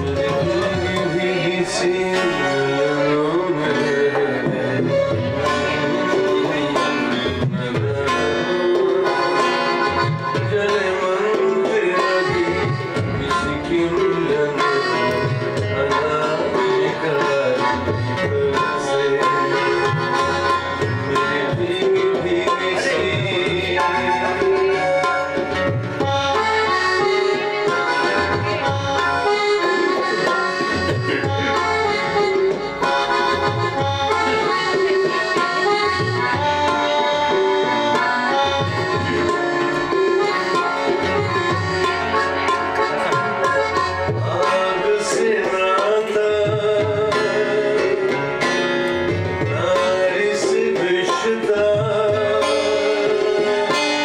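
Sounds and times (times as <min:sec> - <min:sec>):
free-reed melody: 0:00.0 - 0:54.0
tabla playing rhythm: 0:00.0 - 0:54.0.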